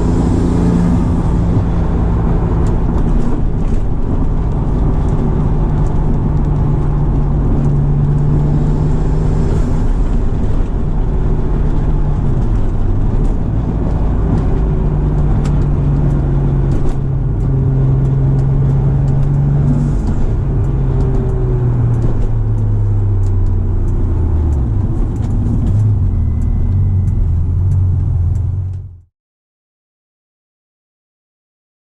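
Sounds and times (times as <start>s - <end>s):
car engine running: 0.0s - 29.0s
steady low rumble: 0.0s - 29.0s.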